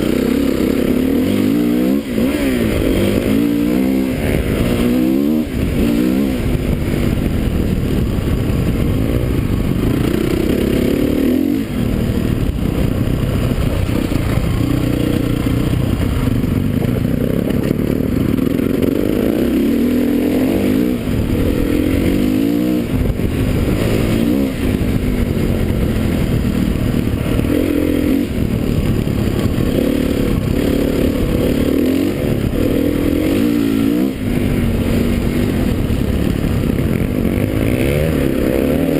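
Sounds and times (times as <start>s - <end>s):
motocross motorcycle engines revving: 0.0s - 38.9s.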